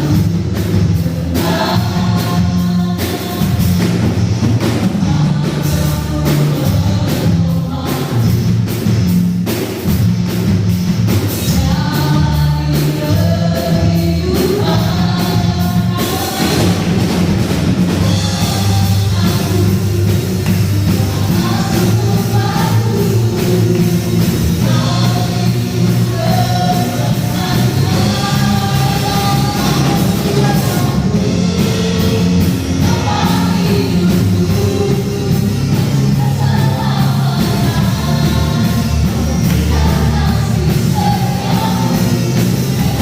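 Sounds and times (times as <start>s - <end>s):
worship band with singers: 0.0s - 43.0s.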